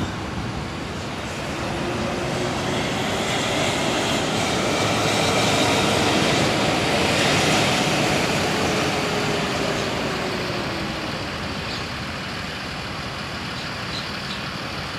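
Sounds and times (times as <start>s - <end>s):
racing engine running: 0.0s - 14.9s.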